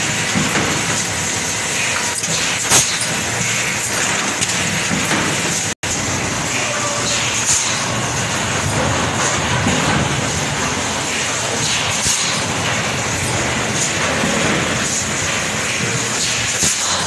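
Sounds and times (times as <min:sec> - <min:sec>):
machine mechanical clatter: 0:00.0 - 0:17.0.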